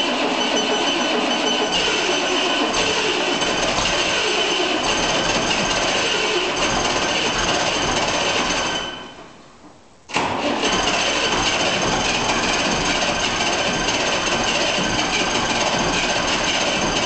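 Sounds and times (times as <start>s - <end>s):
tractor engine running: 0.0s - 8.8s, 10.1s - 17.0s.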